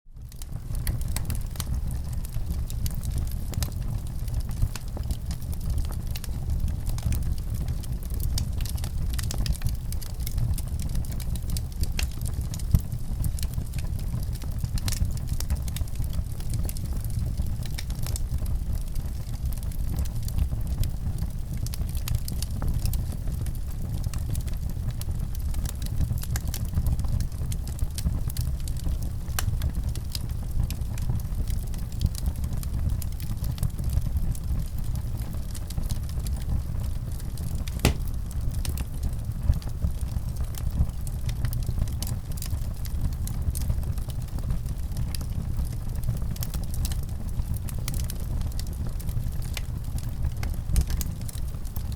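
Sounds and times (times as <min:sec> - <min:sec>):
fireplace fire crackling: 0:00.2 - 0:51.9.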